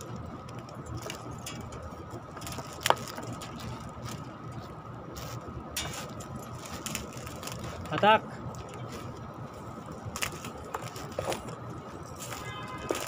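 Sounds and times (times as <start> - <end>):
electrical wire rustling and clicking: 0.0 - 13.0
low background rumble: 0.0 - 13.0.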